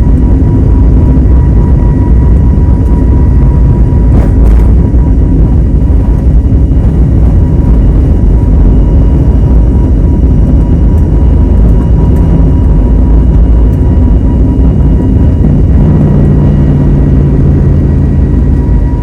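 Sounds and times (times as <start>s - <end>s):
airliner cabin engine rumble: 0.0s - 19.0s
faint steady whine: 0.0s - 19.0s.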